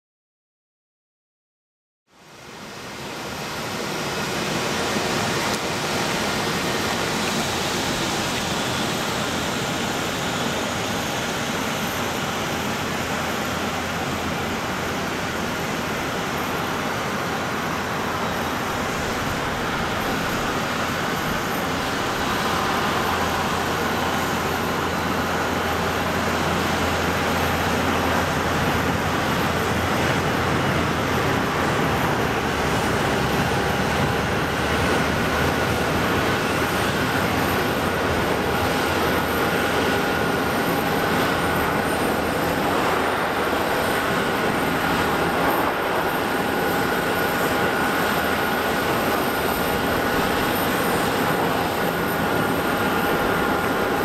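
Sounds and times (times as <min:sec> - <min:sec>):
jet airliner landing: 0:02.4 - 0:54.0.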